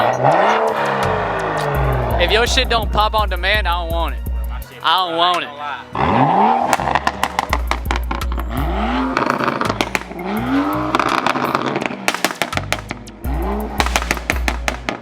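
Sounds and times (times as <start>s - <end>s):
car engine revving: 0.0s - 4.0s, 5.9s - 15.0s
exhaust popping and crackling: 0.0s - 4.2s, 6.0s - 15.0s.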